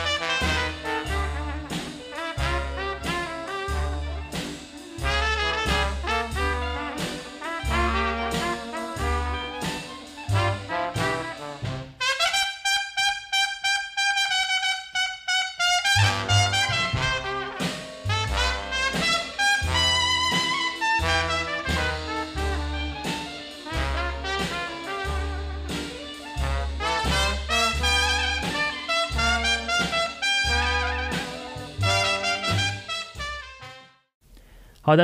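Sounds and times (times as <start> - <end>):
bass line: 0.0 - 12.0, 15.8 - 33.6
jazz music: 0.0 - 34.1
trumpet: 0.0 - 34.1.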